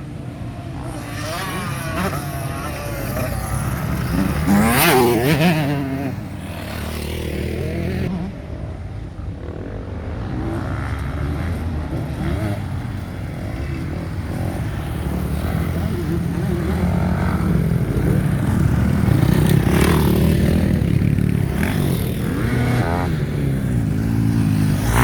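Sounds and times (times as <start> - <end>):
motocross bike engine revving: 0.0 - 8.3, 9.6 - 25.0
distant motorbike engines: 0.0 - 25.0.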